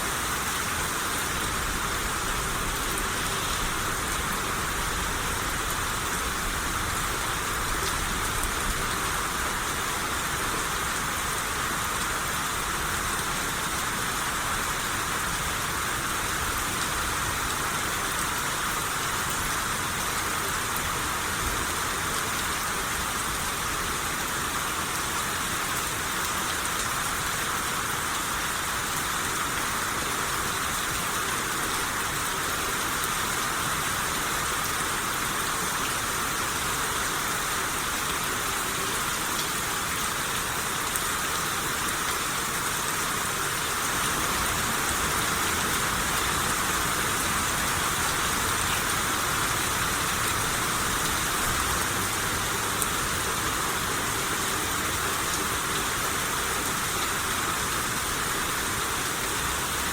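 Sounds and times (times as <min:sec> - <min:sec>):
rain shower hissing: 0:00.0 - 0:59.9.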